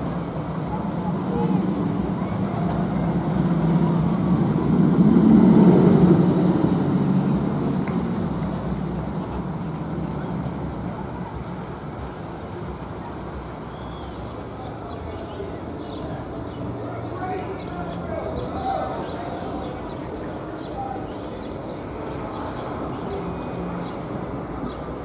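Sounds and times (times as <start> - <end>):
roller coaster rumbling on track: 0.0 - 25.0.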